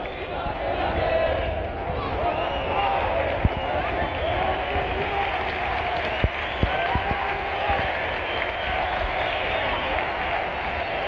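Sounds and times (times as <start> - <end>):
stadium crowd shouting and singing: 0.0 - 11.0.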